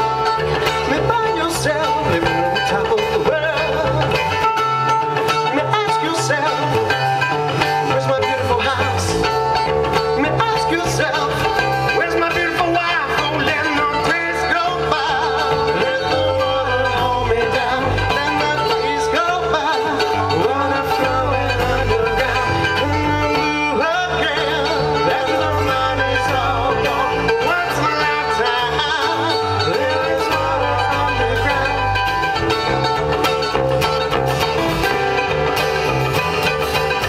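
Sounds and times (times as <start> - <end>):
acoustic guitar strumming: 0.0 - 37.0
bass guitar line: 0.0 - 37.0
mandolin: 0.0 - 37.0.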